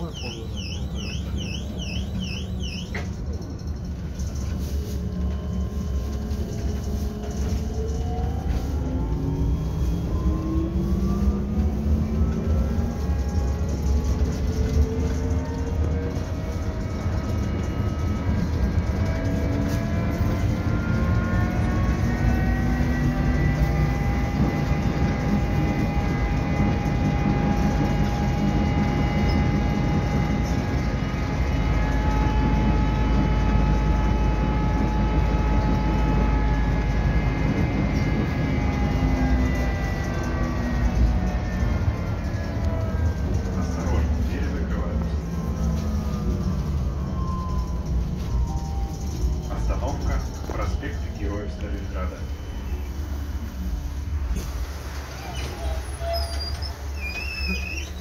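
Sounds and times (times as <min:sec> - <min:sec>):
low road rumble: 0:00.0 - 0:58.0.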